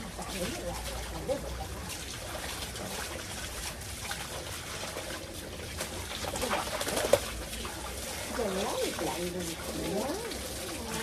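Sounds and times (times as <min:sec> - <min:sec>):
hose water splashing: 0:00.0 - 0:11.0.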